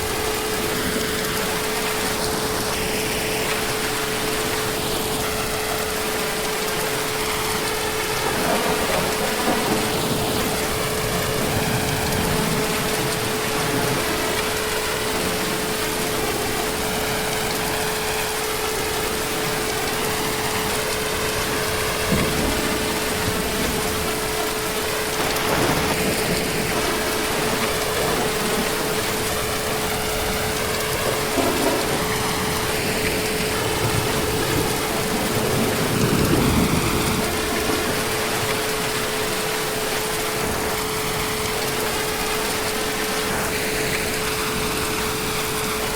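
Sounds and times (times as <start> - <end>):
heavy rain hissing: 0.0 - 45.9
distant thunder rumbles: 6.3 - 45.9.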